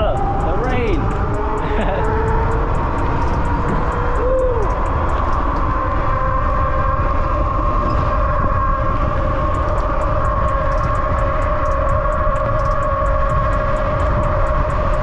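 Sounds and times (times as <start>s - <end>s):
electric motor whine: 0.0s - 15.0s
wind rushing over microphone: 0.0s - 15.0s.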